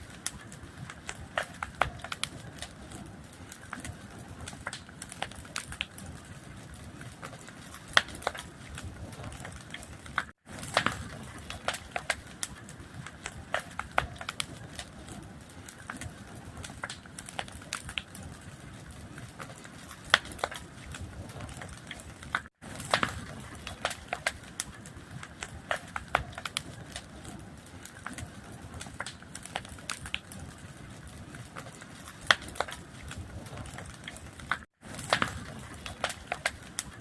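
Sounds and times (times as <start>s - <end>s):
fire popping and snapping: 0.0s - 37.0s
low rush of burning: 0.0s - 37.0s
wood fire crackling: 0.0s - 37.0s.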